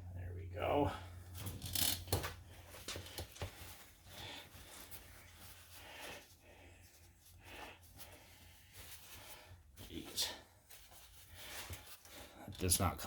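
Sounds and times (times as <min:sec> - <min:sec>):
steady low hum: 0:00.0 - 0:12.9
soft rubbing and handling: 0:00.1 - 0:13.0.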